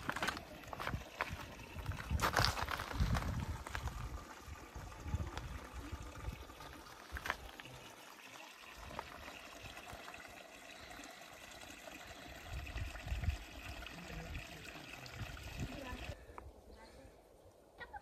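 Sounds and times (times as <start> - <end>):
water trickling over rock: 0.0 - 16.2.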